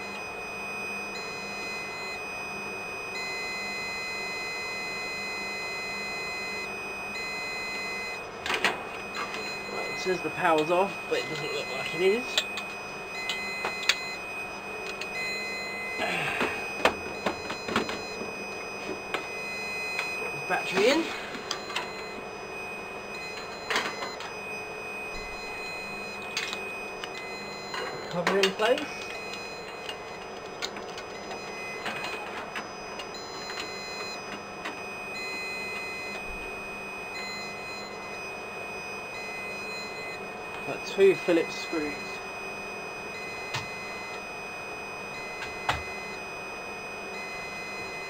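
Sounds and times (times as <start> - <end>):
electronic beeps: 0.0 - 8.3, 8.9 - 30.3, 31.0 - 48.0
equipment humming: 0.0 - 48.0
faint steady whine: 0.0 - 48.0.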